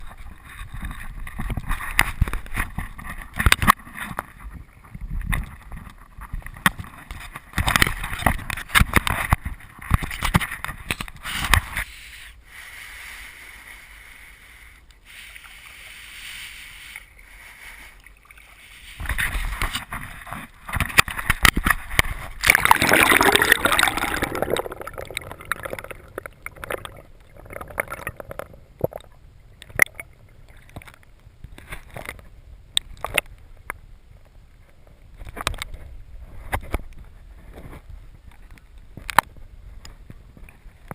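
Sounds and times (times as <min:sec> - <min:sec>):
water splashing around a kayak: 0:00.0 - 0:40.9.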